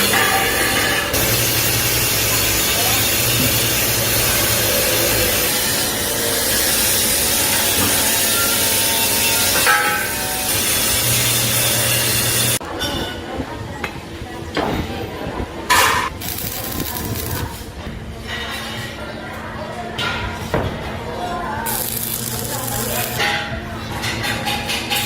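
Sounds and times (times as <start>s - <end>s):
metalworking machinery noise: 0.0s - 25.0s.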